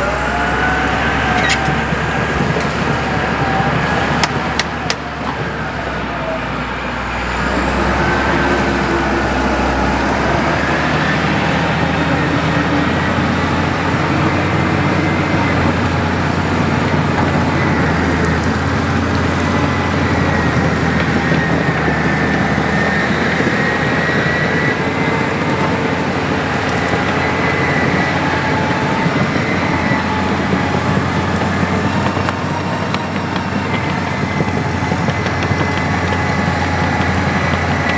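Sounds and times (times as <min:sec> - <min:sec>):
bulldozer diesel engine: 0:00.0 - 0:37.9.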